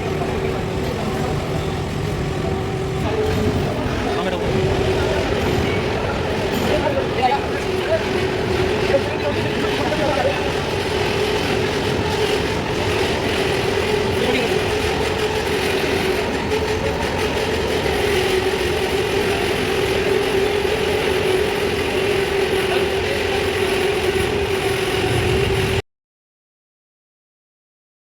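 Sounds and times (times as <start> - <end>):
electric arc furnace running: 0.0 - 25.8.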